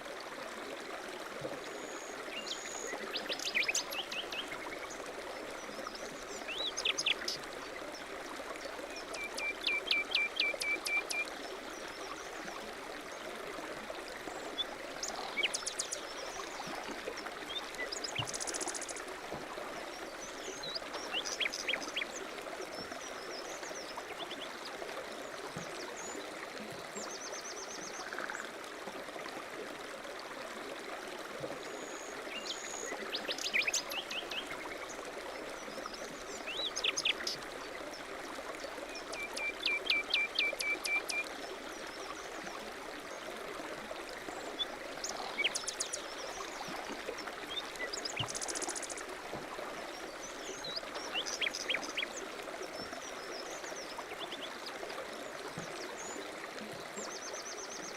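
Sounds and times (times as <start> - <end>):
stream running: 0.0 - 57.9.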